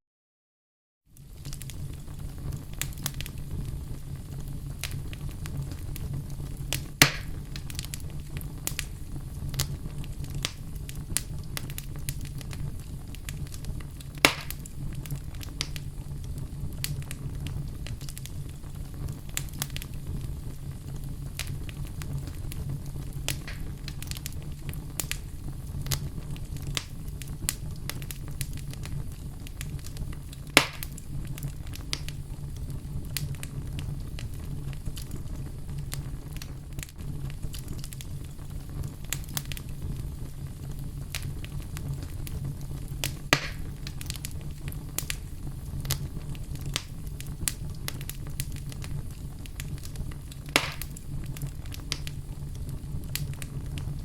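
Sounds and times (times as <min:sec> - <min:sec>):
fireplace fire crackling: 0:01.1 - 0:54.0
sharp pops of fire: 0:01.2 - 0:54.0.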